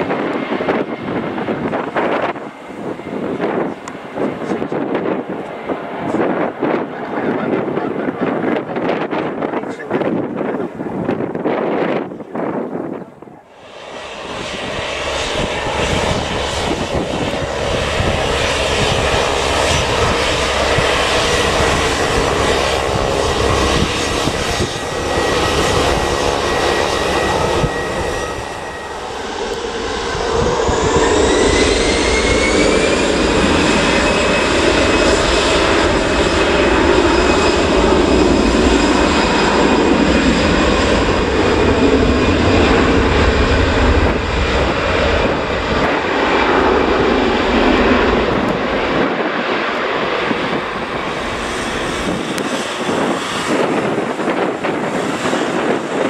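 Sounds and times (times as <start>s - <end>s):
jet engine whine rising: 0.0s - 56.0s
jet engines running: 0.0s - 56.0s.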